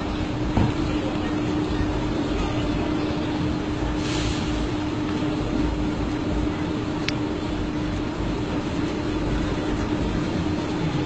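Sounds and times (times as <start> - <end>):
faint constant hum: 0.0 - 11.0
low traffic rumble: 0.0 - 11.0.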